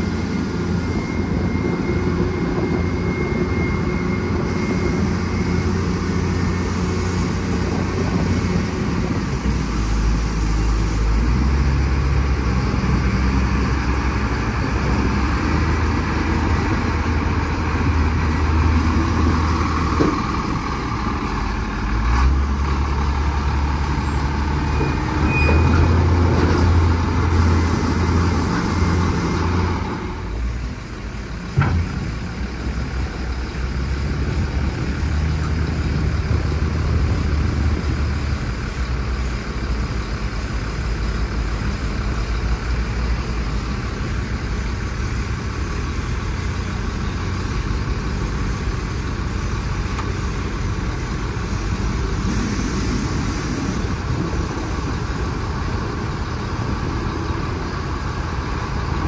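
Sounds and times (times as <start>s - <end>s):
diesel truck engines idling: 0.0s - 59.0s.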